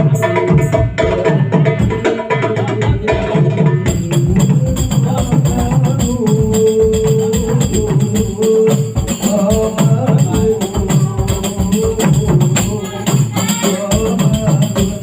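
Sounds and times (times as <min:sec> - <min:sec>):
frame drums playing: 0:00.0 - 0:15.0.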